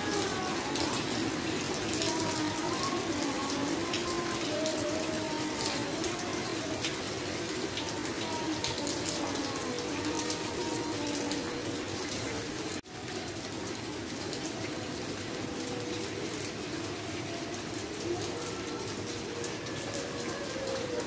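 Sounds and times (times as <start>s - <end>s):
heavy rain on tiles and railing: 0.0s - 21.0s.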